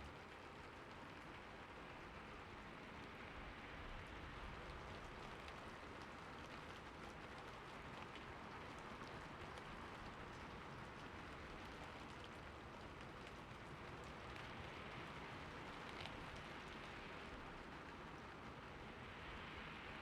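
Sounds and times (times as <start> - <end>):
steady quiet rain: 0.0 - 20.0.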